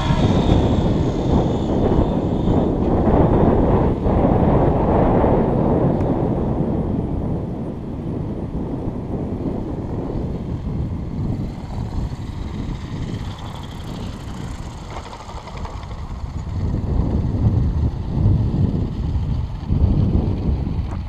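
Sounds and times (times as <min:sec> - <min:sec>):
rc helicopter motor whine: 0:00.0 - 0:06.4, 0:08.2 - 0:21.0
wind rumbling on microphone: 0:00.0 - 0:21.0.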